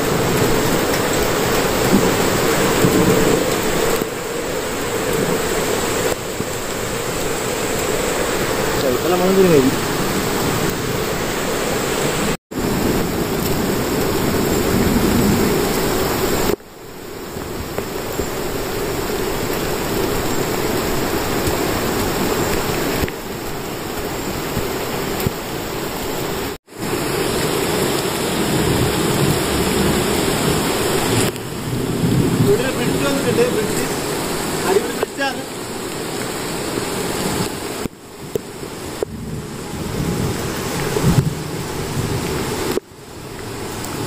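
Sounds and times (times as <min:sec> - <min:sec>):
rushing waterfall: 0:00.0 - 0:44.0.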